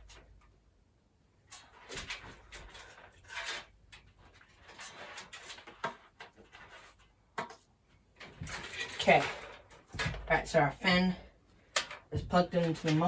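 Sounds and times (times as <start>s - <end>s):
cable rustling: 1.4s - 13.0s.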